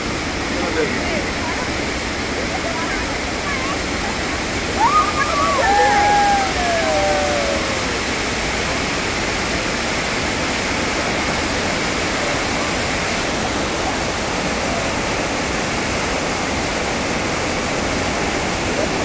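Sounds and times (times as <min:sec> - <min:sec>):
rush of falling water: 0:00.0 - 0:19.0.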